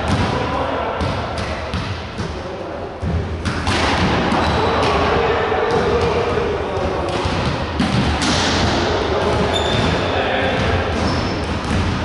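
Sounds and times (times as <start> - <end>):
volleyball strikes: 0.0 - 2.4, 3.0 - 12.0
players' voices: 0.0 - 12.0.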